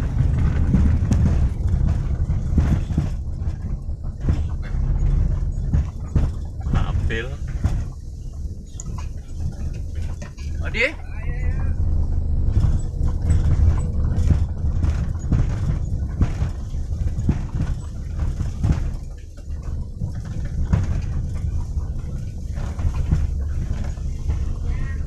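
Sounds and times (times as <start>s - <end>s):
road rumble inside car: 0.0s - 25.0s
suspension knocking: 0.0s - 25.0s.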